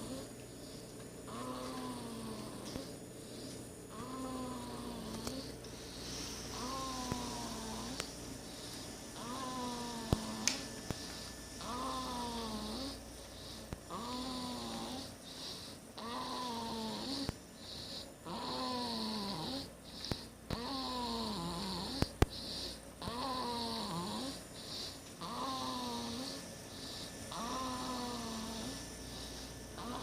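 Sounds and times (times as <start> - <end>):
baby snoring: 0.0 - 30.0.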